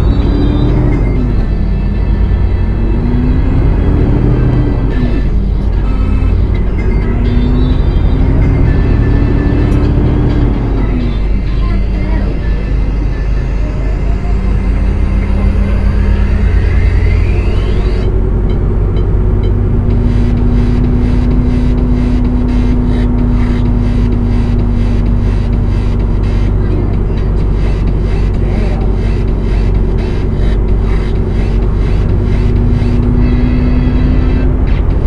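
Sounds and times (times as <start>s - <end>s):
road rumble: 0.0s - 35.0s
truck diesel engine running: 0.0s - 35.0s.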